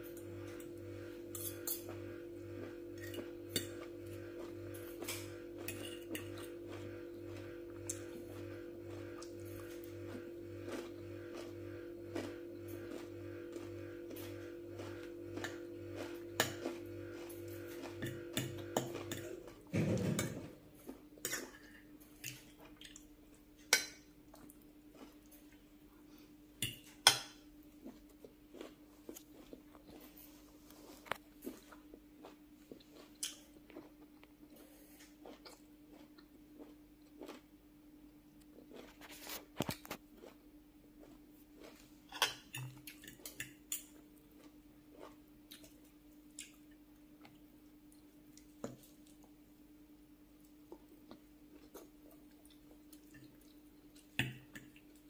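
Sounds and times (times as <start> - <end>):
faint steady hum: 0.0 - 55.0
chewing food: 0.1 - 20.1, 20.8 - 27.0, 27.6 - 49.6, 50.3 - 55.0.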